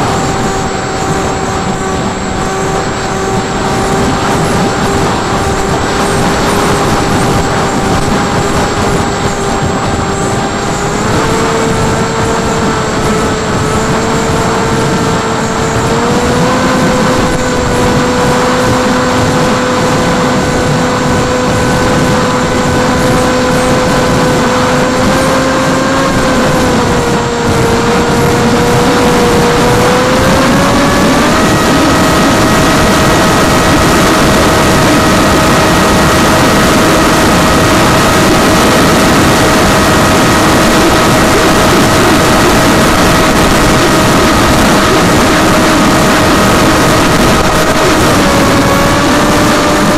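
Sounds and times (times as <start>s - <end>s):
electric motor whine: 0.0s - 49.9s
rushing air noise: 0.0s - 49.9s.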